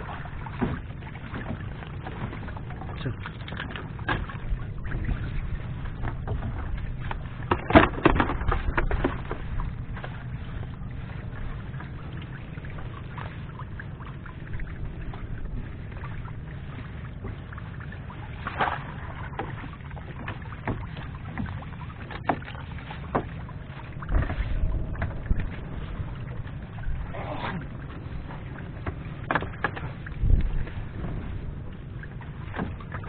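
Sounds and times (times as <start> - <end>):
steady low rumble: 0.0 - 33.0
water splashing around boat: 0.0 - 33.0.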